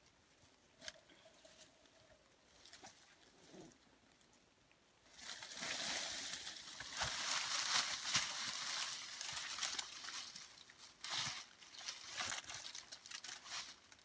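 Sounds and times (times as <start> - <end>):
dry leaves and twigs crackling: 0.0 - 4.4, 5.0 - 14.0.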